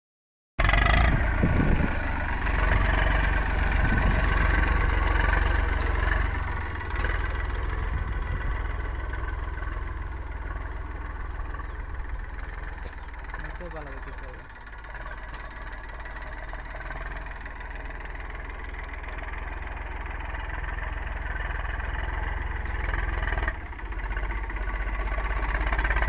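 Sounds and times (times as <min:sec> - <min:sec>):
tractor diesel engine rumbling: 0:00.6 - 0:26.0.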